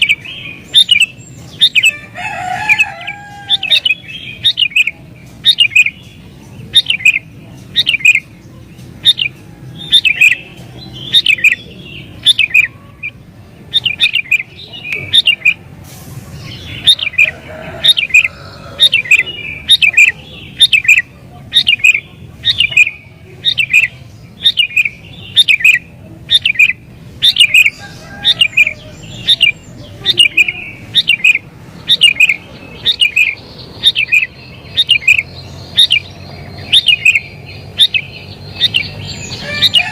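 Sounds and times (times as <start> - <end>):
bird singing bright phrases: 0.0 - 39.9.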